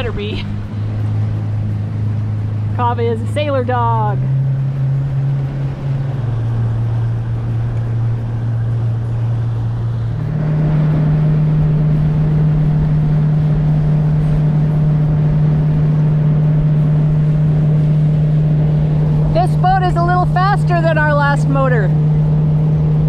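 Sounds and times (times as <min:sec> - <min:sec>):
outboard boat motor droning: 0:00.0 - 0:23.0.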